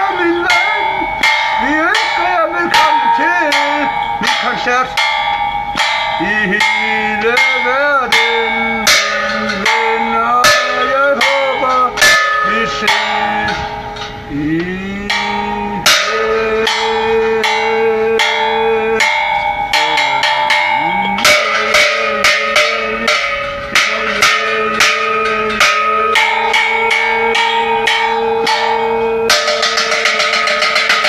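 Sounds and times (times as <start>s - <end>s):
bells and metal pans clanging: 0.0s - 31.0s
percussion pole beaten with stick: 0.0s - 31.0s.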